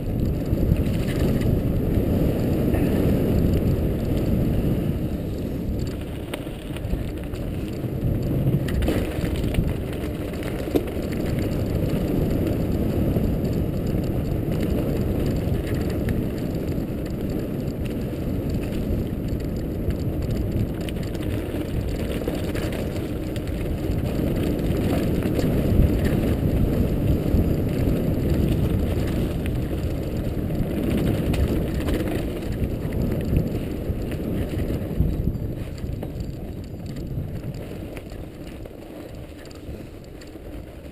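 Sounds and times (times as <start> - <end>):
bike tyres rumbling on gravel: 0.0 - 40.9
clicks and rattles over stones: 0.0 - 40.9.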